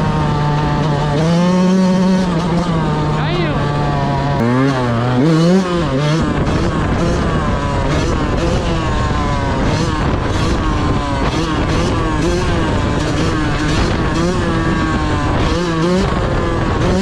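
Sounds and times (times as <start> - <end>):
two-stroke motorcycle engine revving: 0.0 - 17.0.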